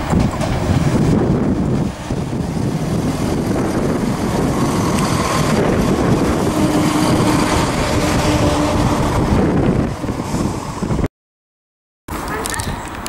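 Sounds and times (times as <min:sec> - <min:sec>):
diesel train engine: 0:00.0 - 0:11.1
wheel-on-rail noise: 0:00.0 - 0:11.1.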